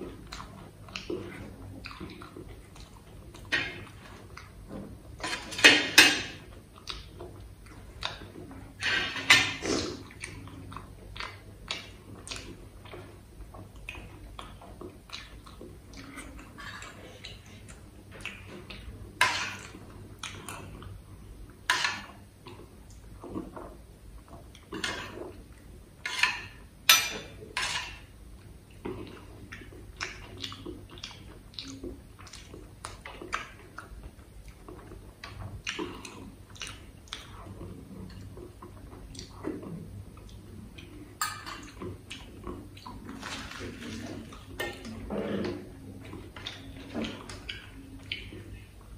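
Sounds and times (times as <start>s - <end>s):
eating sounds: 0.0s - 48.9s.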